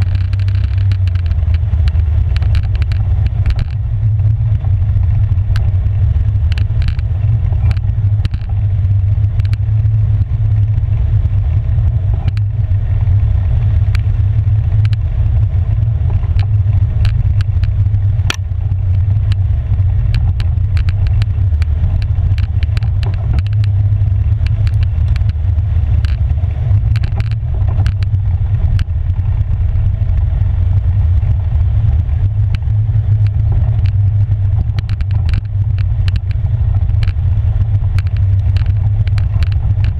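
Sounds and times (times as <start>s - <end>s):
clicks and rattles: 0.0s - 9.9s, 12.1s - 12.6s, 13.8s - 29.6s, 32.1s - 39.9s
atv engine droning: 0.0s - 39.9s.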